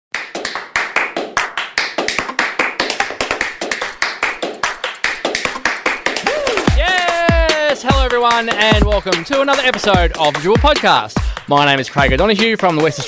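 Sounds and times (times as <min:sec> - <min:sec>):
sharp slapping hits: 0:00.1 - 0:13.0.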